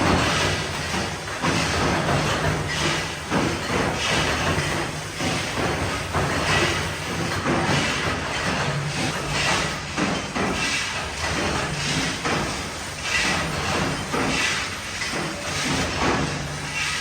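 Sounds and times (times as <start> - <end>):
machine strokes clattering: 0.0 - 17.0
steady mechanical noise: 0.0 - 17.0.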